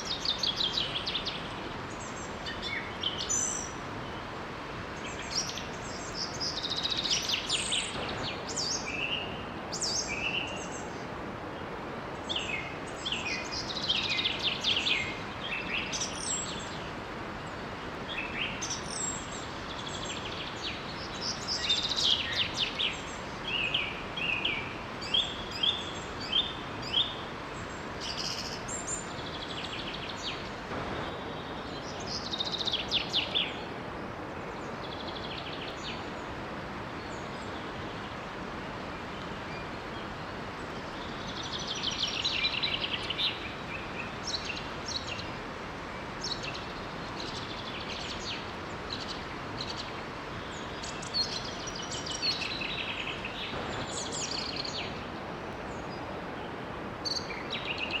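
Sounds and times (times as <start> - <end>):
small waterfall rushing: 0.0 - 58.0
songbirds chirping: 0.0 - 58.0.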